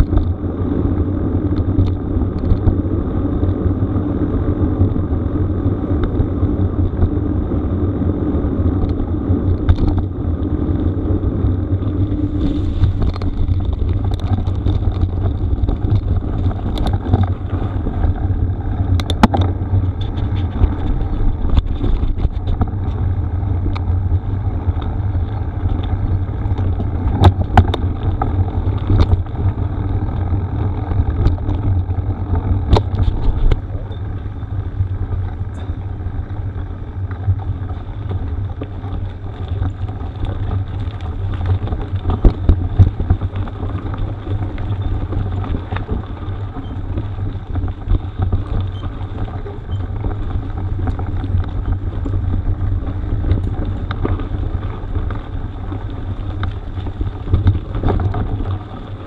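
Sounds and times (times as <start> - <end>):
bike rattling over stones: 0.0 - 59.0
wind and tyre noise: 0.0 - 59.0.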